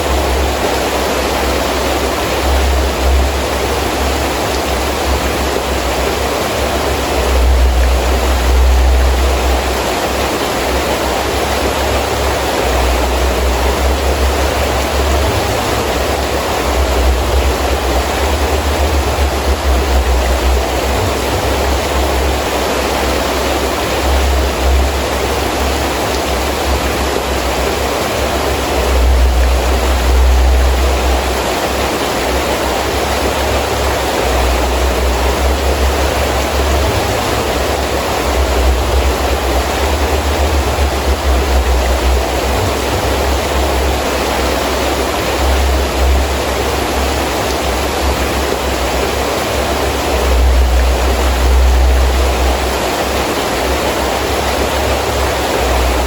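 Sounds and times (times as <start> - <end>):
heavy rain falling: 0.0 - 56.0
wind gusts rumbling: 0.0 - 56.0.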